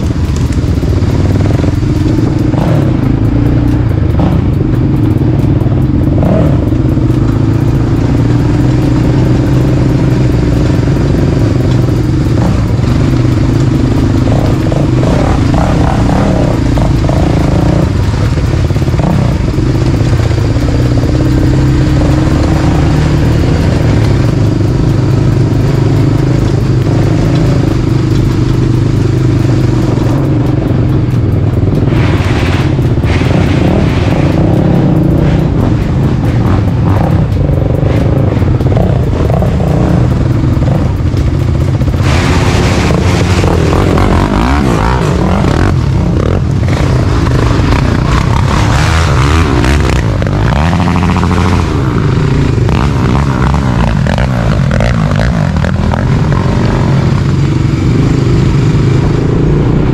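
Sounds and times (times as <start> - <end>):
road noise: 0.0 - 59.9
vehicle engine drone: 0.0 - 59.9.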